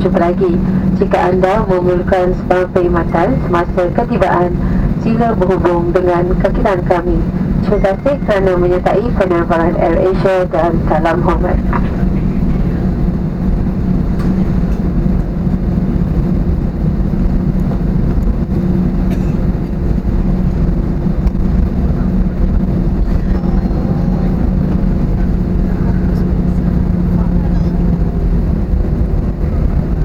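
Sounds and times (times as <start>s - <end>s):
airplane cabin engine rumble: 0.0s - 30.0s
constant hum: 0.0s - 30.0s.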